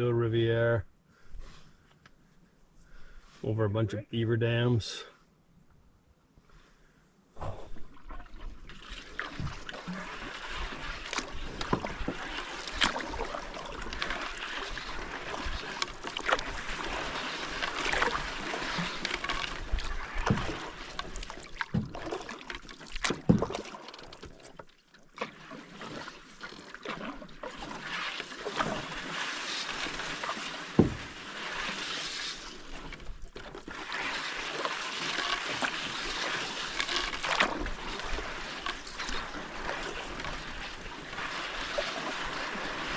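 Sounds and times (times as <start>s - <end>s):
paddle splashing in water: 7.4s - 42.9s.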